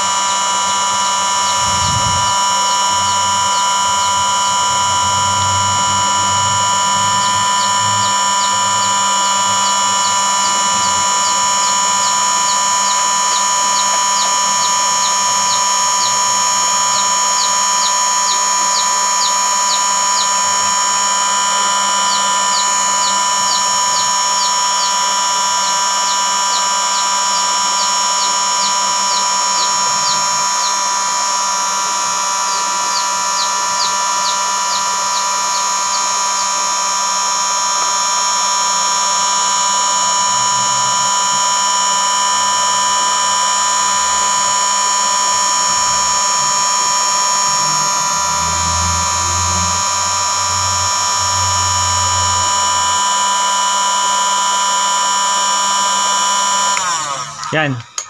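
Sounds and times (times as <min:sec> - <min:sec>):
heat gun fan whine: 0:00.0 - 0:58.0.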